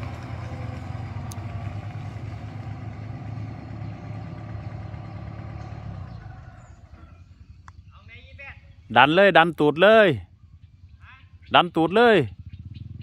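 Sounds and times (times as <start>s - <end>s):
heavy vehicle engines humming: 0.0s - 13.0s.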